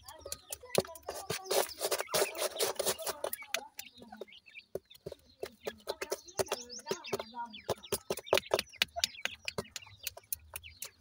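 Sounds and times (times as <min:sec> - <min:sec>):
birds pecking at food: 0:00.0 - 0:11.0
chicks peeping: 0:00.0 - 0:11.0
hen clucking: 0:00.0 - 0:11.0
scratching on dry soil: 0:00.0 - 0:11.0.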